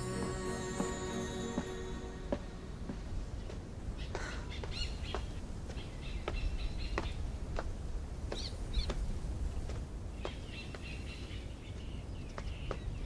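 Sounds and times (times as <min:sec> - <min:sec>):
low background noise: 0:00.0 - 0:13.0
footsteps on stone steps: 0:00.7 - 0:13.0
birds chirping: 0:01.4 - 0:07.4, 0:08.3 - 0:13.0.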